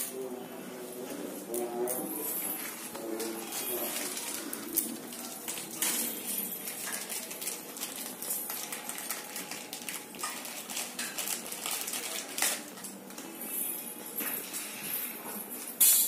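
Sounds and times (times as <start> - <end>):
low background hum of activity: 0.0 - 16.0
metal dishes and utensils clinking: 1.3 - 16.0.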